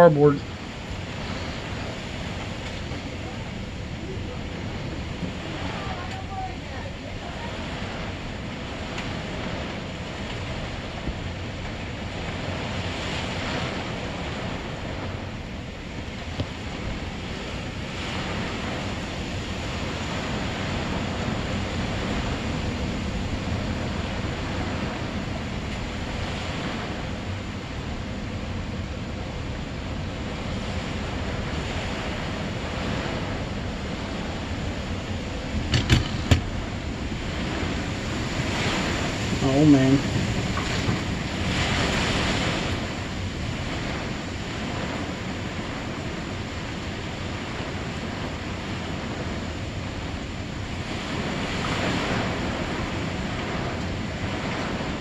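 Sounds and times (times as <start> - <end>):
gusting wind: 0.0 - 55.0
heavy rain: 0.0 - 55.0.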